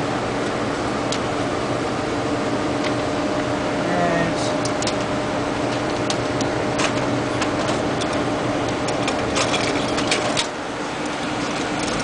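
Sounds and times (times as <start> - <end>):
machinery droning hum: 0.0 - 12.0.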